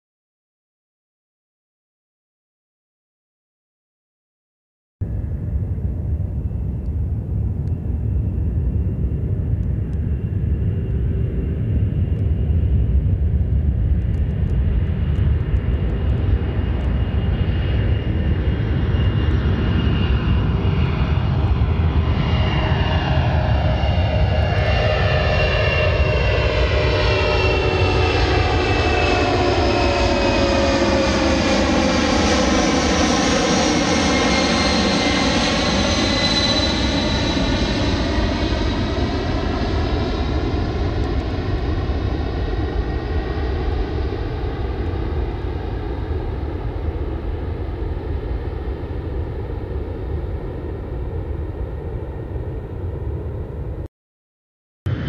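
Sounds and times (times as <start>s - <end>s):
jet aircraft taking off: 5.0s - 53.9s.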